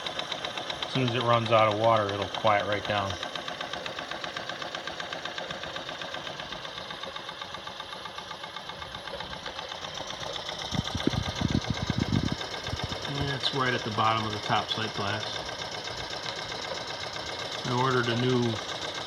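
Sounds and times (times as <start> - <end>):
feed pump clicking: 0.0 - 19.0
toy steam engine running: 0.0 - 19.0.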